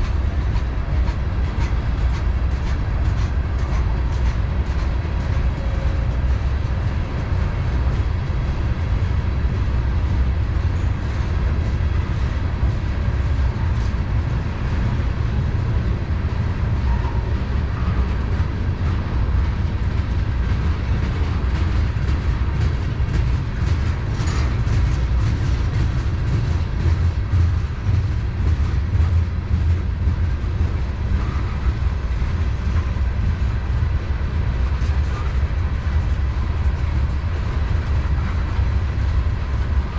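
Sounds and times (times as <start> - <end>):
freight train rumbling on track: 0.0 - 39.9.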